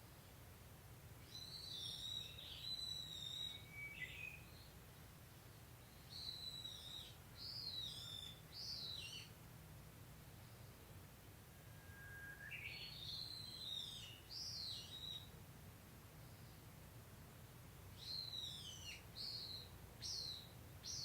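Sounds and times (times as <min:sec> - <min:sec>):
songbirds singing: 0:01.2 - 0:09.4, 0:10.4 - 0:17.0, 0:17.7 - 0:21.0.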